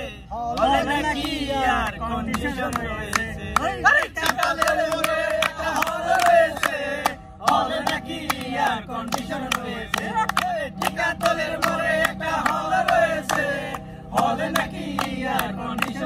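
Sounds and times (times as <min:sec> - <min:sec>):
group of voices singing: 0:00.0 - 0:16.0
sharp clap-like beats: 0:00.5 - 0:16.0.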